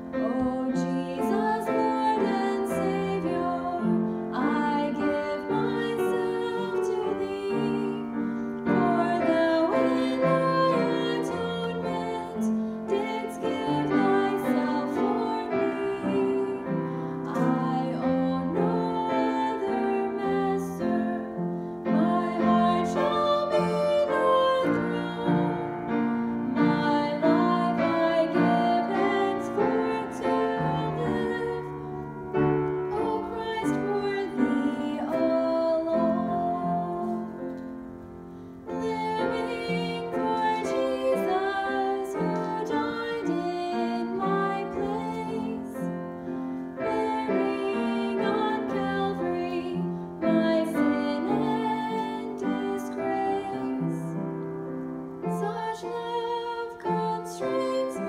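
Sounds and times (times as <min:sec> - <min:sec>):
person singing: 0:00.0 - 0:37.6, 0:38.7 - 0:46.0, 0:46.8 - 0:54.2, 0:55.2 - 0:58.0
hymn on piano: 0:00.0 - 0:58.0.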